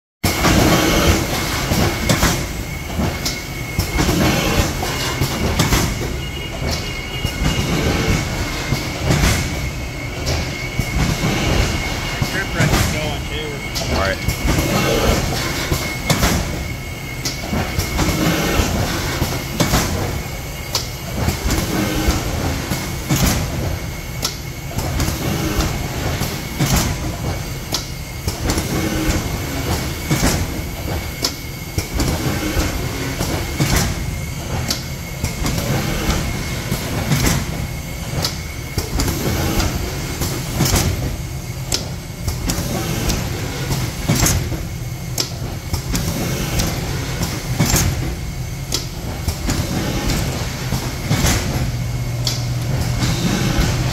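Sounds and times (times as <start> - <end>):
machinery rumble and hum: 0.2 - 53.9.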